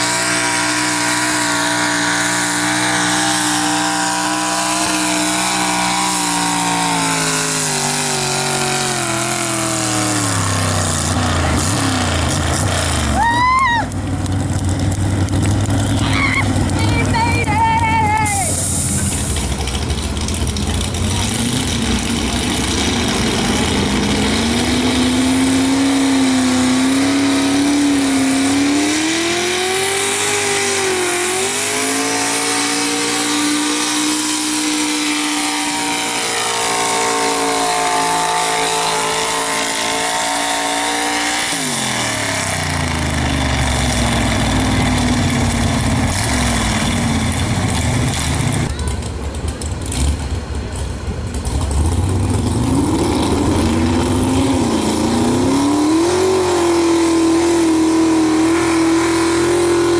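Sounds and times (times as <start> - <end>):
truck engine at full throttle: 0.0 - 59.9.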